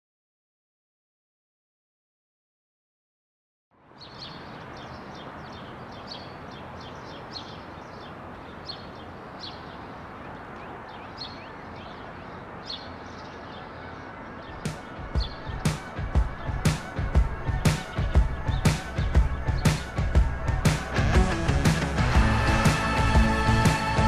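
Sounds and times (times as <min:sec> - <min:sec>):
outdoor ambience hum: 0:03.8 - 0:24.0
small birds chirping: 0:03.8 - 0:24.0.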